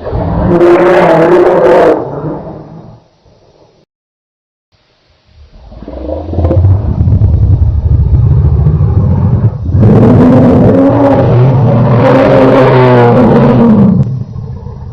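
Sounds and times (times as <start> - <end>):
dinosaur roar: 0.0 - 2.6, 5.5 - 14.9.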